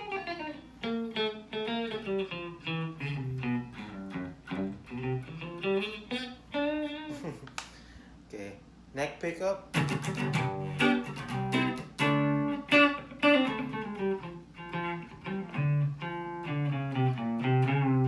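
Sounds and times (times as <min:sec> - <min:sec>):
clean electric guitar notes and chords: 0:00.0 - 0:07.4, 0:09.7 - 0:18.0.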